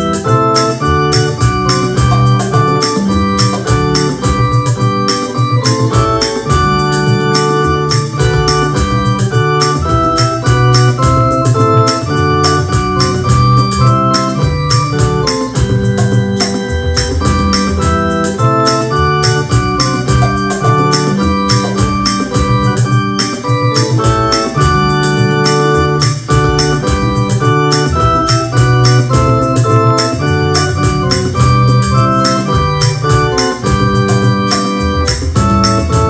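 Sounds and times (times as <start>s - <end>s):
bass line: 0.0s - 36.0s
organ-style keyboard chords: 0.0s - 36.0s
drum beat: 0.3s - 36.0s.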